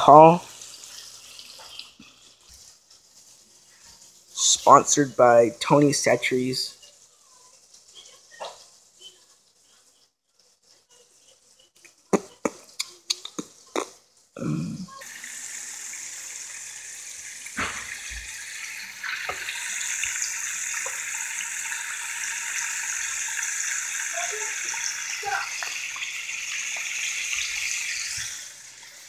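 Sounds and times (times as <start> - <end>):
chicken frying in hot oil: 0.0 - 29.0.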